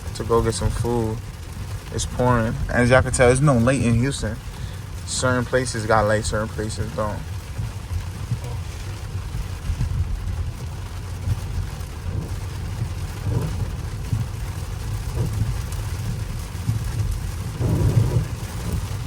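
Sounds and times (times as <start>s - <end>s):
car engine running: 0.0s - 19.0s
road and tyre noise on wet pavement: 0.0s - 19.0s.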